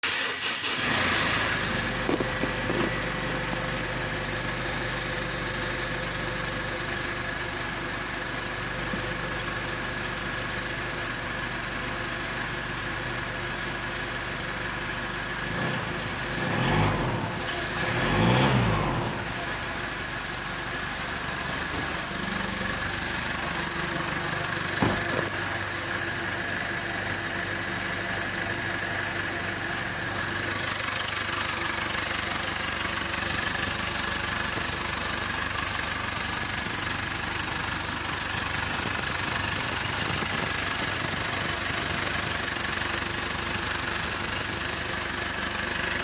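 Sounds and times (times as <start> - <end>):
engine idling and revving: 0.0 - 46.0
high-pitched whine: 0.0 - 46.0.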